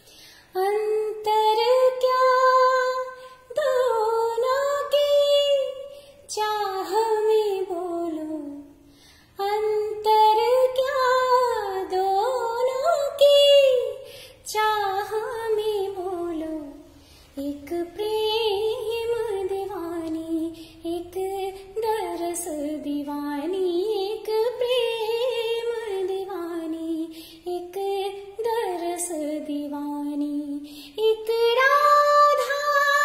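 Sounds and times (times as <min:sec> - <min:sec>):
woman singing with ornamented turns: 0:00.4 - 0:33.0.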